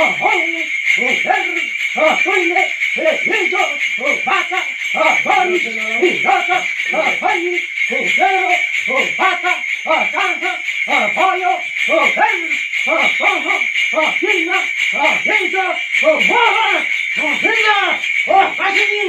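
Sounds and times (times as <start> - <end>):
person chanting rhythmic syllables: 0.0 - 19.0
steady high ringing: 0.0 - 19.0.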